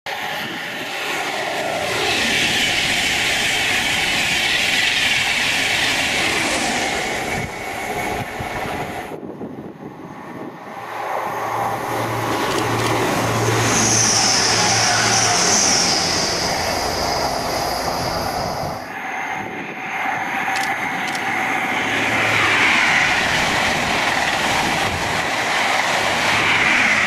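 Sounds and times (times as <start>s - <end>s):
diesel train engine hum: 0.1s - 27.0s
train passing at speed: 0.1s - 27.0s.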